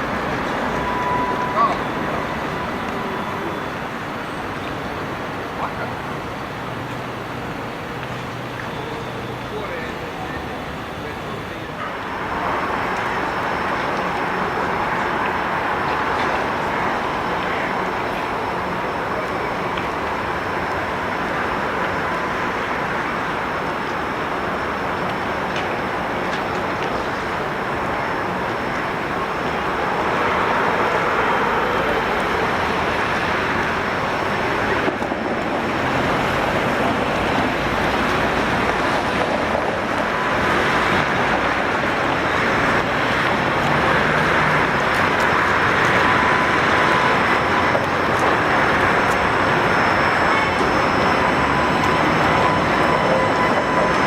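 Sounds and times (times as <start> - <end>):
city street traffic: 0.0 - 54.0
faint steady whine: 0.0 - 54.0
tram running on rails: 0.0 - 54.0.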